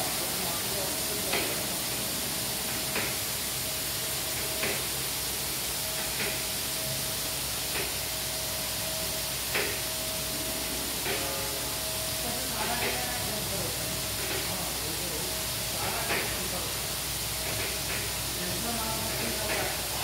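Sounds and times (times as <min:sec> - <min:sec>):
thin steady tone: 0:00.0 - 0:20.0
water spray hissing: 0:00.0 - 0:20.0.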